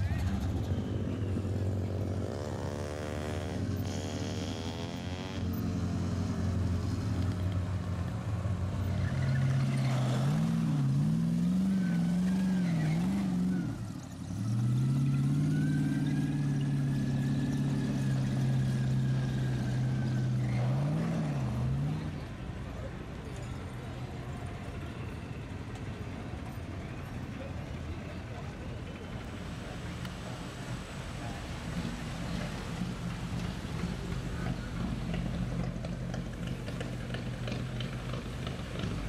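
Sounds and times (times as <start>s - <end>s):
vehicle engines driving past: 0.0s - 39.0s.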